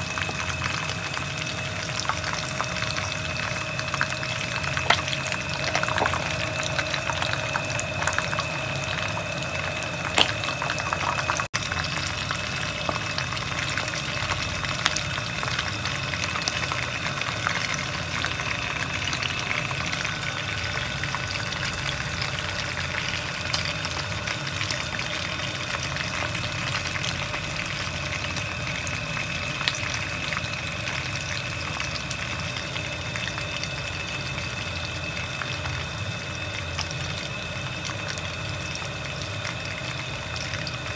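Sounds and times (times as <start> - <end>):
chicken sizzling in hot oil: 0.0 - 40.9
faint steady whine: 0.0 - 40.9.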